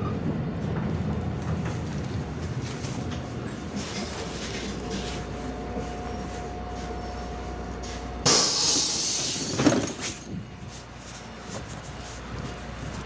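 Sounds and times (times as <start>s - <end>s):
bus engine low rumble: 0.0s - 13.0s.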